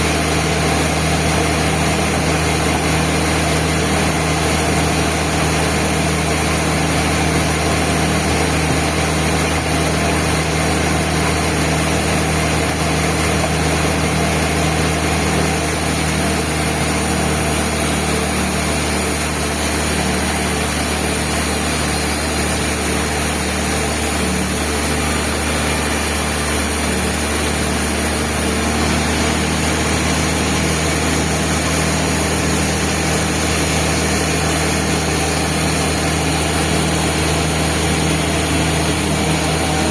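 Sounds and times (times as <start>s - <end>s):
band sawmill machinery drone: 0.0s - 39.9s.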